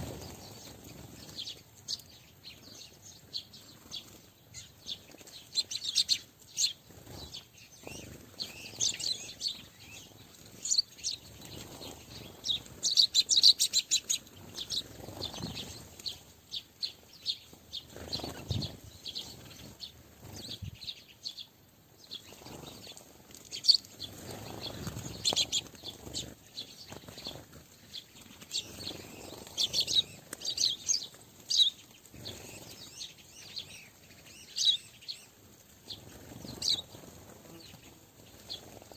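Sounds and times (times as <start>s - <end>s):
small birds chirping: 0.0s - 38.9s
wing flutters: 3.6s - 16.4s, 17.2s - 20.8s, 22.2s - 38.9s.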